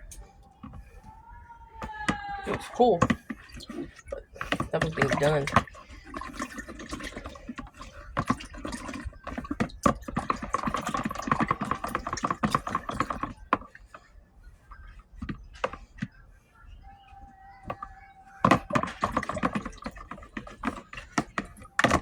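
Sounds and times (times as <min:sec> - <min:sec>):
water splashing: 0:00.0 - 0:22.0.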